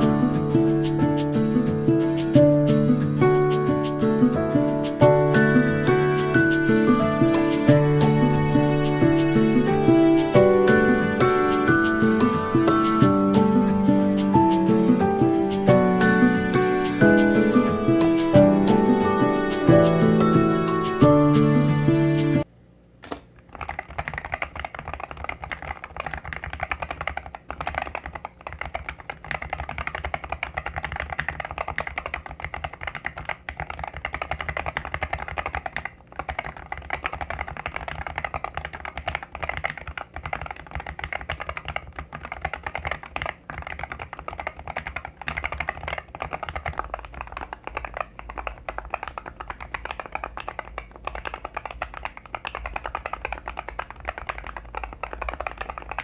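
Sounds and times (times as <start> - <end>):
fast typing on a keyboard: 0.0 - 21.5, 23.4 - 56.0.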